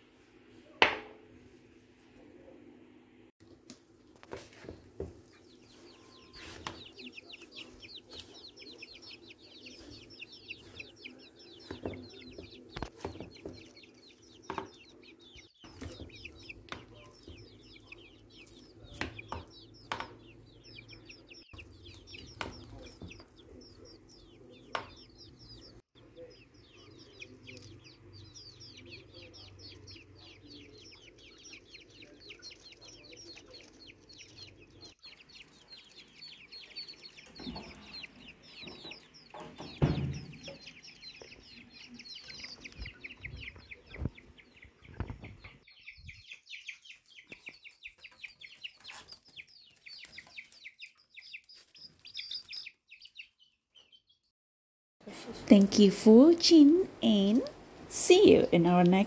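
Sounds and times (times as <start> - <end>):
birds chirping: 3.4 - 54.3, 55.0 - 59.0.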